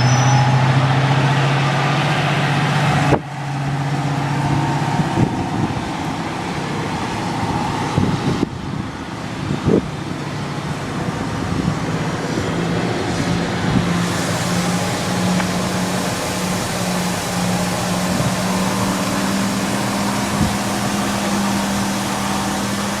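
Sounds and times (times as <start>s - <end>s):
locomotive engine drone: 0.0s - 23.0s
rough outdoor noise: 0.0s - 23.0s.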